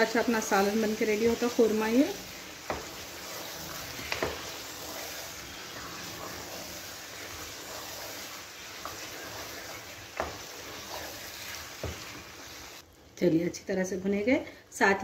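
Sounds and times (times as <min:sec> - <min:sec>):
food sizzling in oil: 0:00.0 - 0:12.8.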